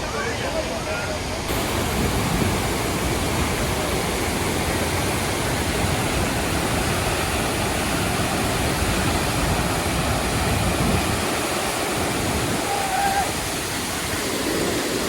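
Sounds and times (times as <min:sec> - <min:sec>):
waterfall rushing: 0:00.1 - 0:15.0.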